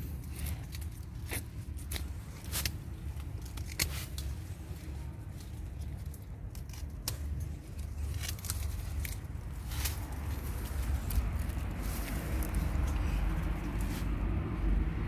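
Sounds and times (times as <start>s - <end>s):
pruning shears snipping: 0.0s - 14.1s
leaves and branches rustling: 0.0s - 15.0s
steady low rumble: 0.0s - 15.0s.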